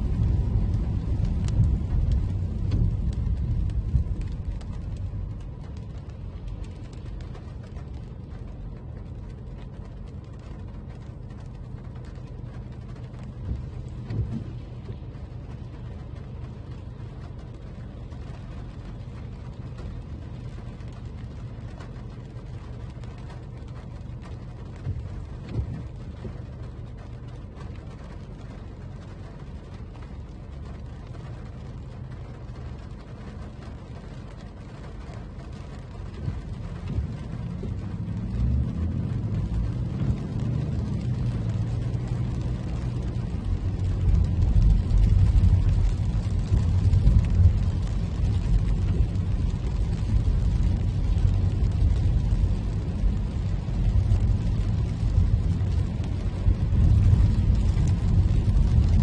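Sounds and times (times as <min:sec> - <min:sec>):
car road and engine rumble: 0:00.0 - 0:59.0
faint hiss of wet road: 0:00.0 - 0:59.0.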